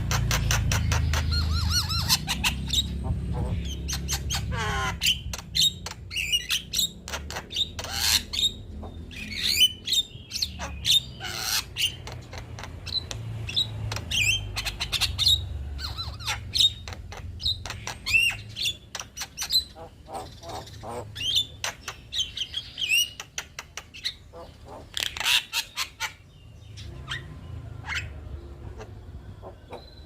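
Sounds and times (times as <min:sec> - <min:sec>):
bird singing chattering song: 0:00.0 - 0:30.0.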